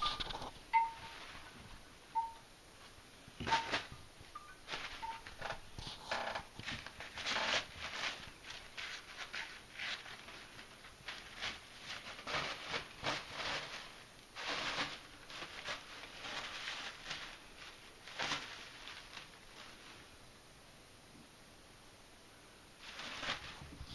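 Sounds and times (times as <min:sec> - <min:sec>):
toilet paper rustling and crinkling: 0:00.0 - 0:01.9, 0:02.8 - 0:20.2, 0:22.8 - 0:23.9.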